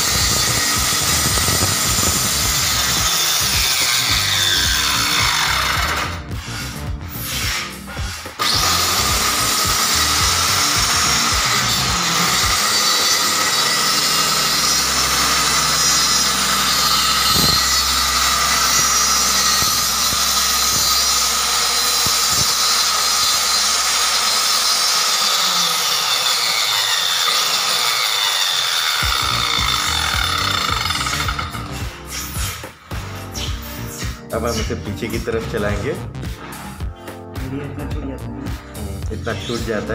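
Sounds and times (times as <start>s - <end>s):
wood router whining: 0.0s - 33.6s.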